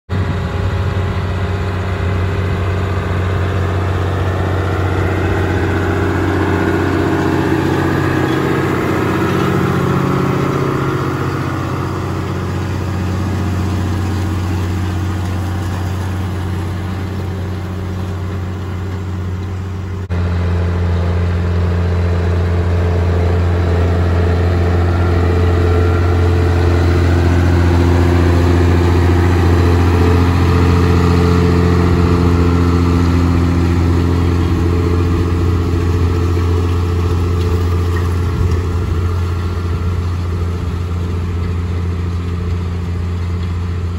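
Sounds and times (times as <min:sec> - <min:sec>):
tractor diesel engine drone: 0:00.1 - 0:43.9.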